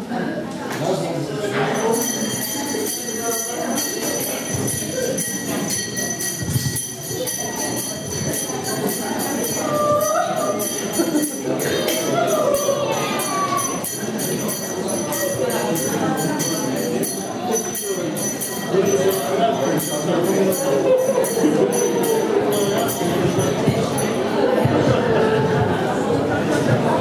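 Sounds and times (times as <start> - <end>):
murmur of voices: 0.0 - 27.0
jingle bells shaking: 1.8 - 24.2.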